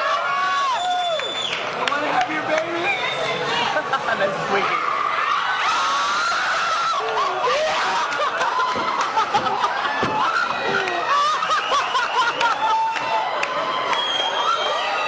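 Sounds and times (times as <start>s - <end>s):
people laughing: 2.0s - 5.0s, 5.7s - 15.0s.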